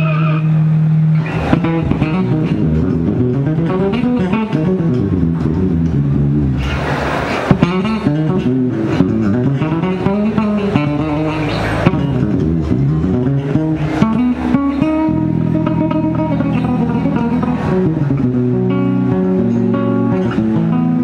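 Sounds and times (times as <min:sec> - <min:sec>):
electric bass guitar runs: 0:00.0 - 0:21.0.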